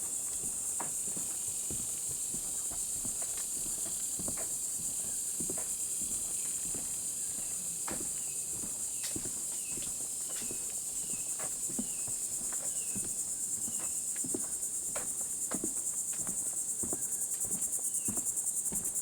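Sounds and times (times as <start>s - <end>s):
footsteps on a trail: 0.0s - 19.0s
high-pitched insect chorus: 0.0s - 19.0s.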